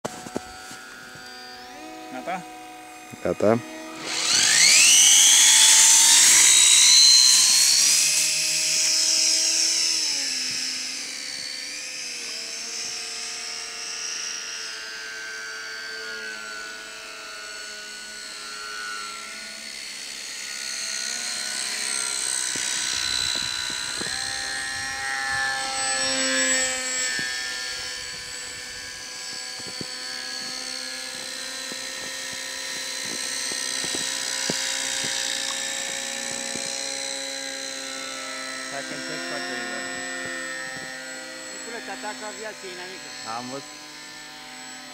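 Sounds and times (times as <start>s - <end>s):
model plane motors whining: 0.0s - 44.9s.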